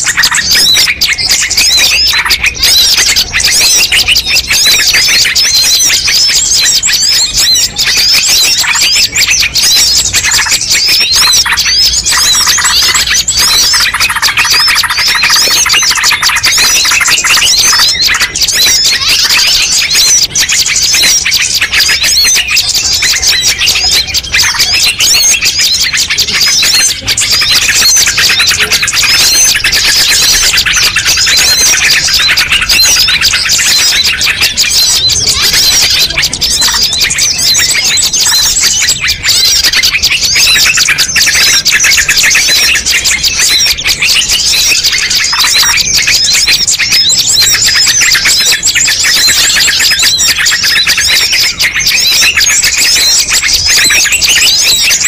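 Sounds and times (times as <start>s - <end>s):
small birds chirping and twittering: 0.0s - 55.0s.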